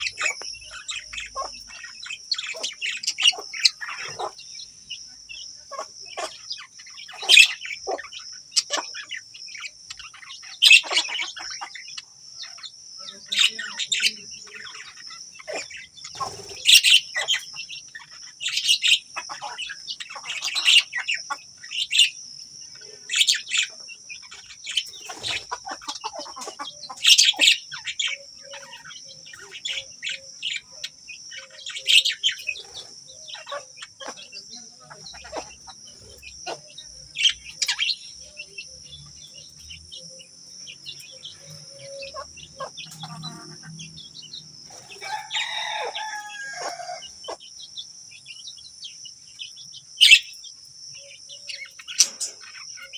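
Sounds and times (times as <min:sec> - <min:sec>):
budgerigars chirping and chattering: 0:00.0 - 0:52.9
sharp bird calls: 0:00.0 - 0:52.9.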